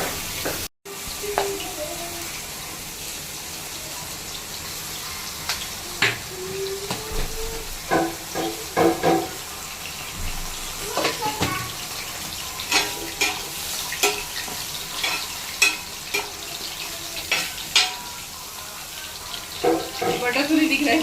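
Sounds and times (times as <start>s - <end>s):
steady kitchen hiss: 0.0s - 21.0s.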